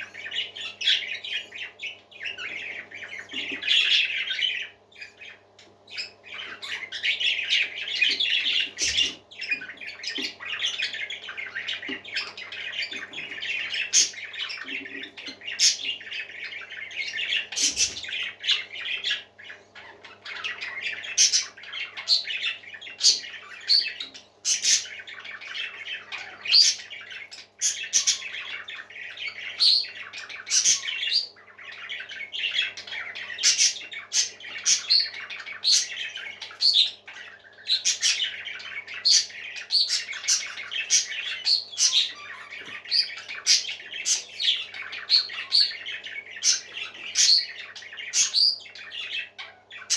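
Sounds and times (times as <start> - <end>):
parakeets chattering and squawking: 0.0 - 49.9.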